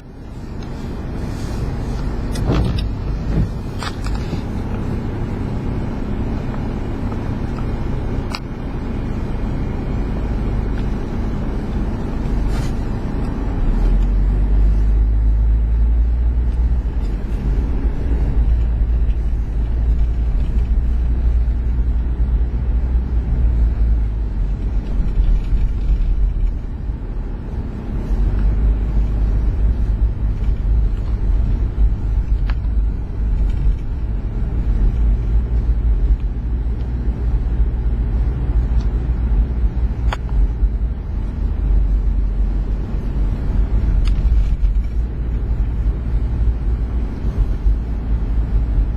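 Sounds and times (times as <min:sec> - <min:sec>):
vehicle engine rumble: 0:00.0 - 0:48.9.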